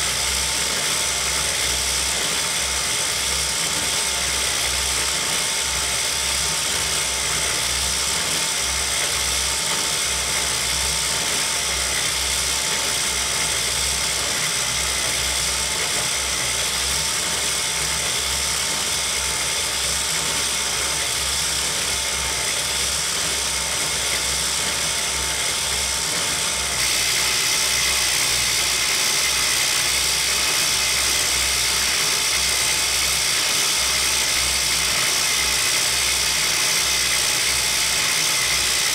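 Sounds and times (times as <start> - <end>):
knitting machine whirring: 0.0 - 38.9.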